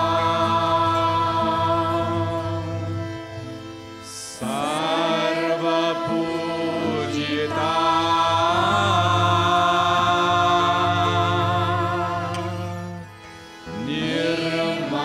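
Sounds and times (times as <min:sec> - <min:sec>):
slow music with low drone: 0:00.0 - 0:15.0.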